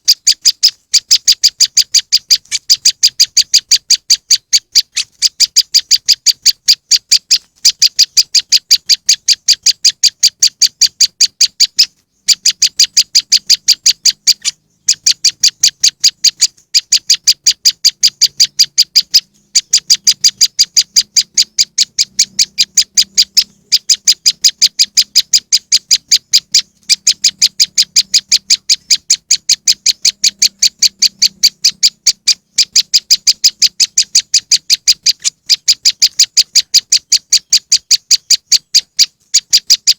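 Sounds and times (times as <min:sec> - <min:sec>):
bird chirping sharp high calls: 0:00.0 - 0:39.9.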